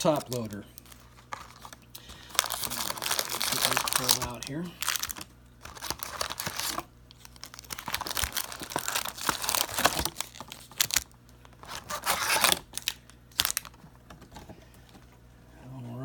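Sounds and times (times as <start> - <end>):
foil packs crinkling: 0.0 - 13.8.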